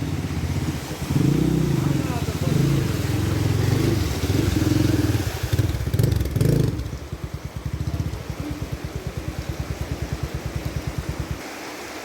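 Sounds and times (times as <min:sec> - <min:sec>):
motorcycle engine idling: 0:00.0 - 0:11.4.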